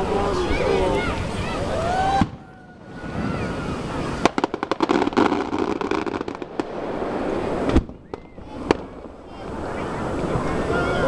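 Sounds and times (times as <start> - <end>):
fireworks crackling pops: 0.0 - 11.0
firework bangs: 2.0 - 11.0.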